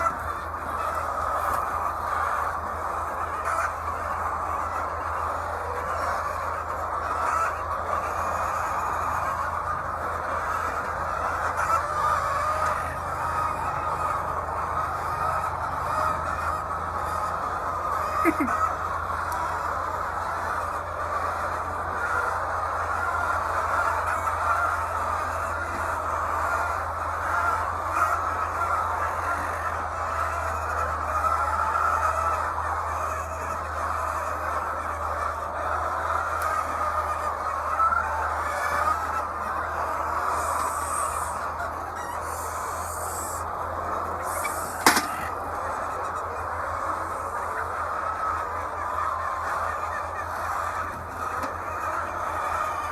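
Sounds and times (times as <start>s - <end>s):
hens clucking: 0.0s - 52.9s.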